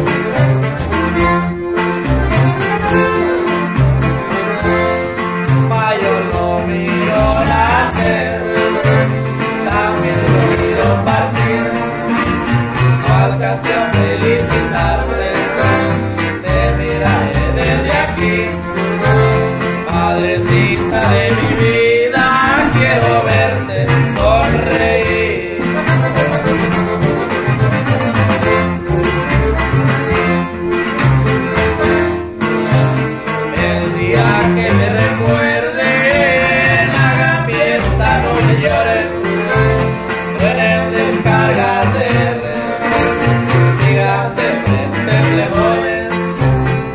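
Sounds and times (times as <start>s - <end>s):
accordion melody: 0.0s - 46.9s
guitar: 0.0s - 46.9s
plucked upright bass: 0.0s - 46.9s.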